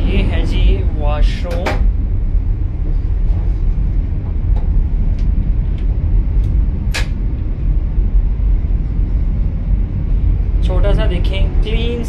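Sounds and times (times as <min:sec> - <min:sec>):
train running low rumble: 0:00.0 - 0:12.0.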